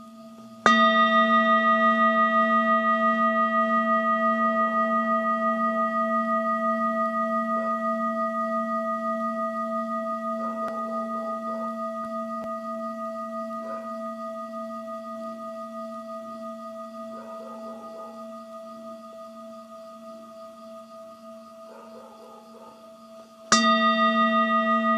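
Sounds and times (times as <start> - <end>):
singing bowl ringing: 0.0 - 21.8, 22.6 - 24.9.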